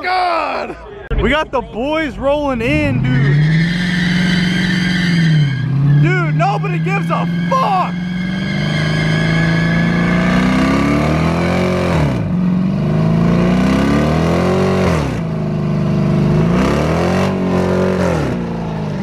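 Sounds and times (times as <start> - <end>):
car engine revving hard: 2.7 - 19.0.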